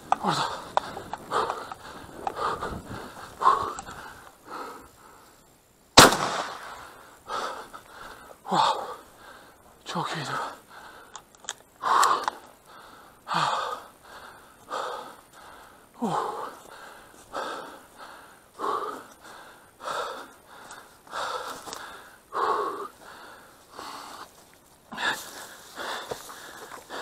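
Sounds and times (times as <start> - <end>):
person breathing hard: 0.0 - 5.4, 6.7 - 27.0.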